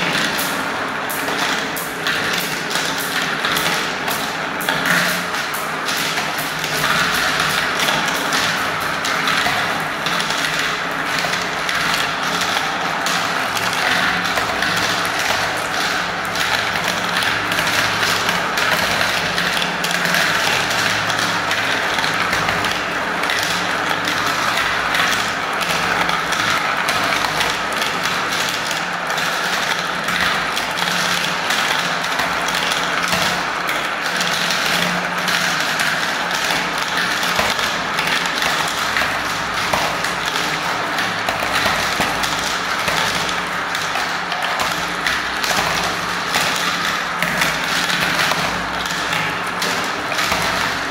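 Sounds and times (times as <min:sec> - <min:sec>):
marbles rolling in plastic bowls: 0:00.0 - 0:50.9.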